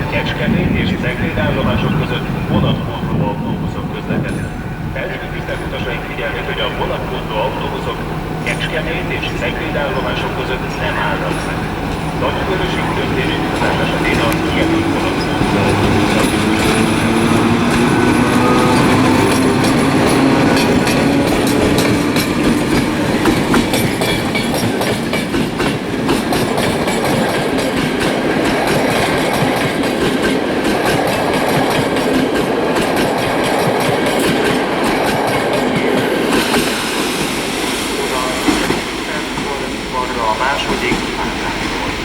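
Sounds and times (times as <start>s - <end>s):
train rumbling: 0.0s - 42.0s
train wheels clicking over rail joints: 4.0s - 42.0s.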